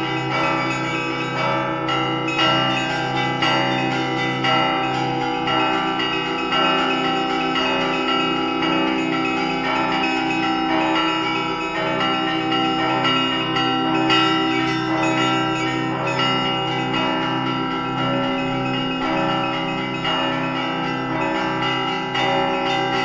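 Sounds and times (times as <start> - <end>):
large low bells ringing: 0.0 - 23.0
small church bells ringing: 0.0 - 23.0.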